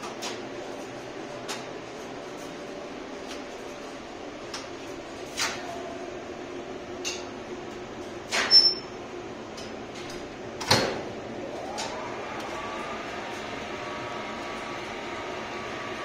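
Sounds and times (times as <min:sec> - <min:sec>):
machine room hum: 0:00.0 - 0:16.0.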